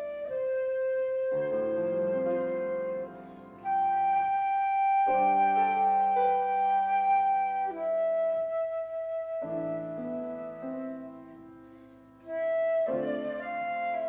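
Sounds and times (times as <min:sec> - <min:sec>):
flute melody: 0:00.0 - 0:14.0.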